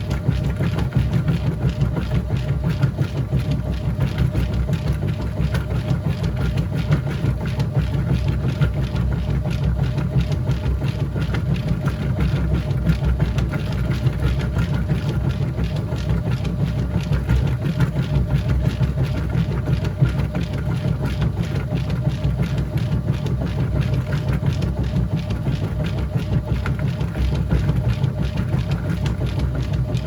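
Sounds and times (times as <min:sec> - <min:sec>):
washing machine pulsing drone: 0:00.0 - 0:30.0.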